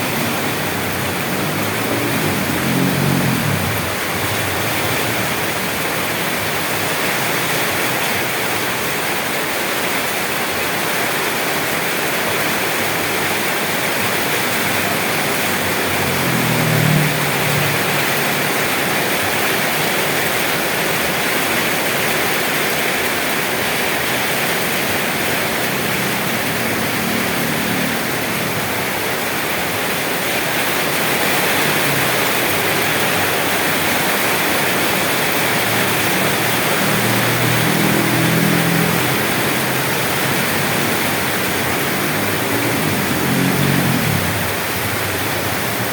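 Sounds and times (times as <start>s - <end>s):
heavy rain hiss: 0.0s - 45.9s.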